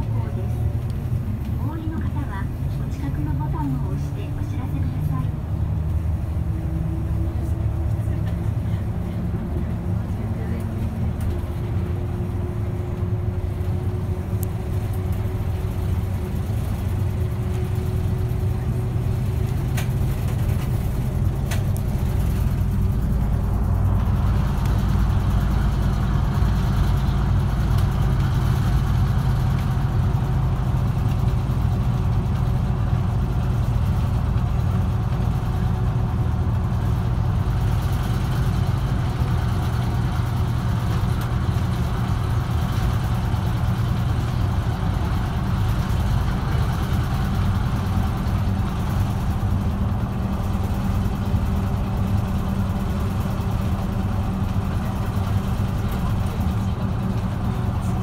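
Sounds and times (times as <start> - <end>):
bus engine drone: 0.0 - 58.0
tyre and road noise: 0.0 - 58.0.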